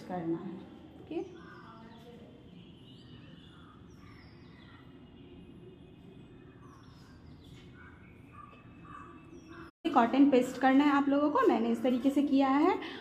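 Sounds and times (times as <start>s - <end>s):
faint background noise: 0.0s - 13.0s.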